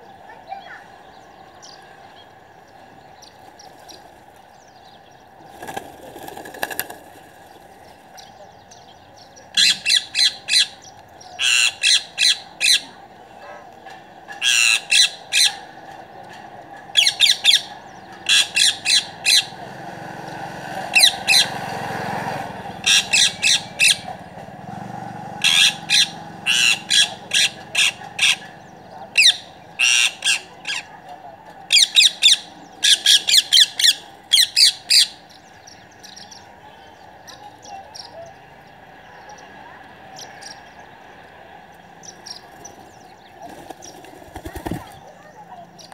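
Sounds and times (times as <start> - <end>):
parakeets screeching: 0.3 - 13.7, 14.3 - 16.2, 16.9 - 19.7, 20.9 - 24.4, 25.4 - 45.9.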